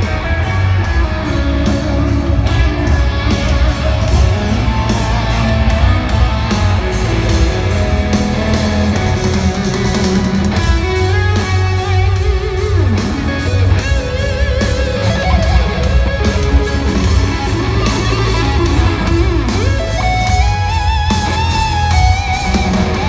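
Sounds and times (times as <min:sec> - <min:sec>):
electric guitar lead bending: 0:00.0 - 0:23.0
live hard rock band: 0:00.0 - 0:23.0.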